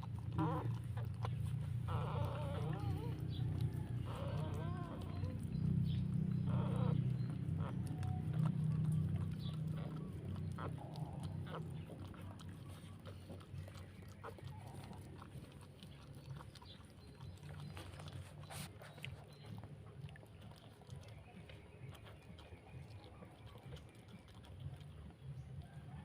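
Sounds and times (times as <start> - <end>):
dog making low drawn-out sounds: 0.0 - 26.0
faint high puppy squeaks: 0.1 - 24.8.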